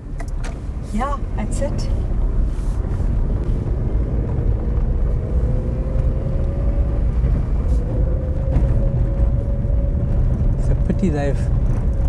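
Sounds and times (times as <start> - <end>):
car driving rumble: 0.0 - 12.0
faint car whine: 0.0 - 12.0.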